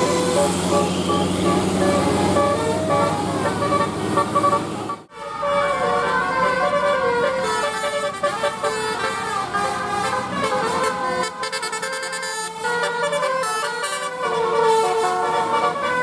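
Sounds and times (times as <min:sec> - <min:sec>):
multi-tone bus horn tune: 0:00.0 - 0:16.0.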